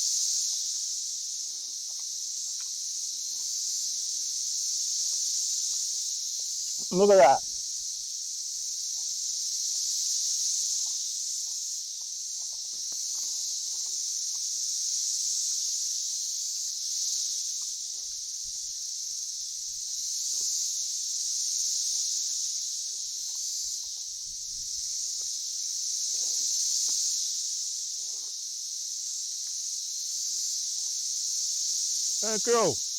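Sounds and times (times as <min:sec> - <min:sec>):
insects buzzing: 0:00.0 - 0:32.9.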